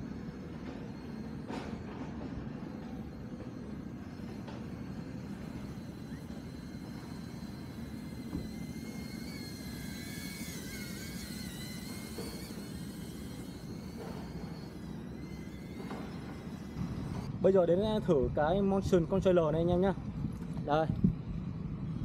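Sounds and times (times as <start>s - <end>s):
drone propellers whining: 0.0s - 18.6s.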